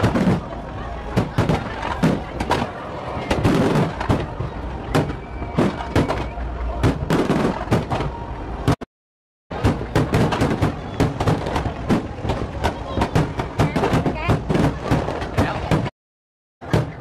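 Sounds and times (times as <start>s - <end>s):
continuous noisy din: 0.0s - 8.9s, 9.5s - 15.9s, 16.6s - 17.0s
fireworks bursting: 0.0s - 8.9s, 9.5s - 15.9s.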